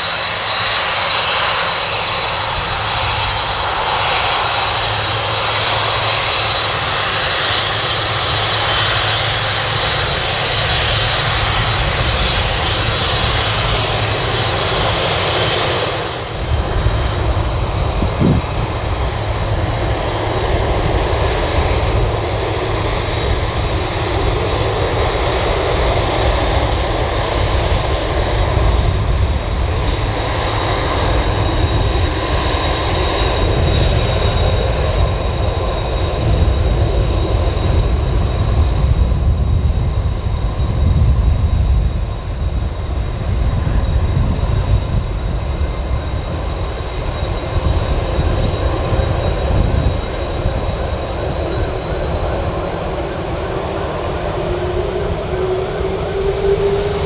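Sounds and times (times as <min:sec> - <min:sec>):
high jet engine whine: 0:00.0 - 0:57.0
jet engines rumbling: 0:00.0 - 0:57.0.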